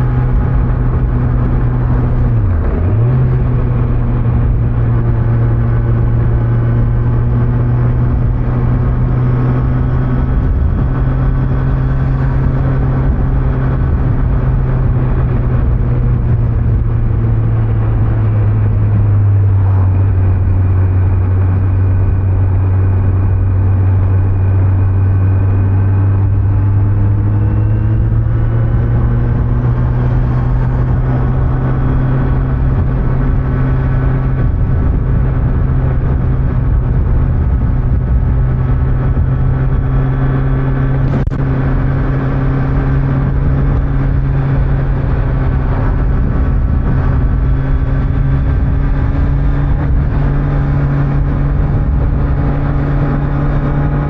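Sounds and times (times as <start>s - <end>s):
motorcycle engine cruising: 0.0s - 54.0s
road noise: 0.0s - 54.0s.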